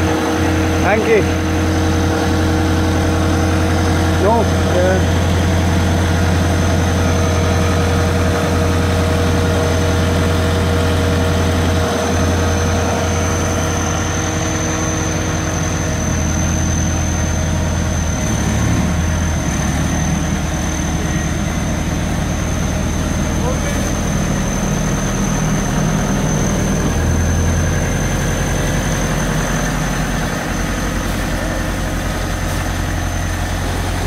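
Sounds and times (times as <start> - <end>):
diesel engine idling: 0.0 - 34.0
high whine: 0.0 - 34.0.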